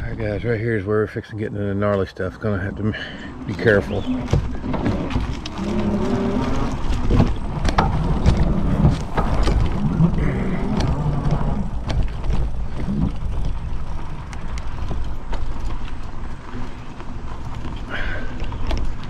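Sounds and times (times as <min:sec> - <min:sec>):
wind and tyres rumbling: 0:00.0 - 0:19.0
bike knocking and rattling: 0:01.8 - 0:19.0.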